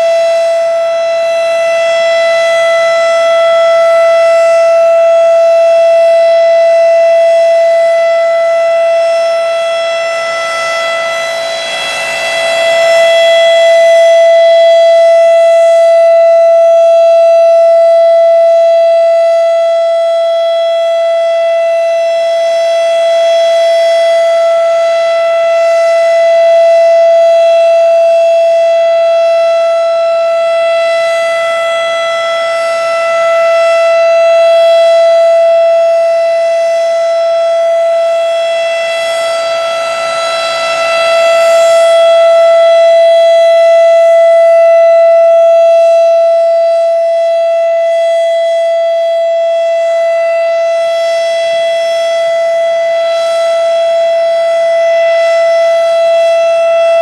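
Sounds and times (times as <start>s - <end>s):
tornado siren steady tone: 0.0s - 57.0s.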